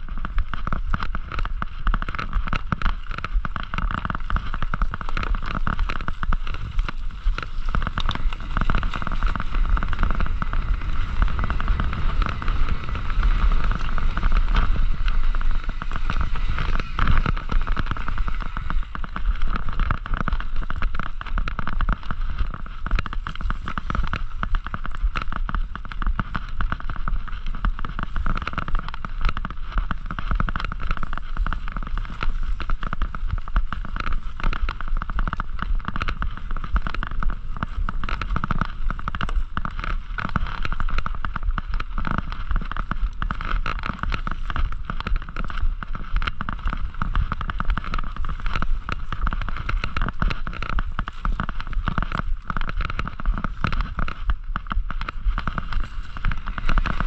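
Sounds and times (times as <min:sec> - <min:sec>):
bike rattling and knocking: 0:00.0 - 0:57.0
wind rumble on microphone: 0:00.0 - 0:57.0.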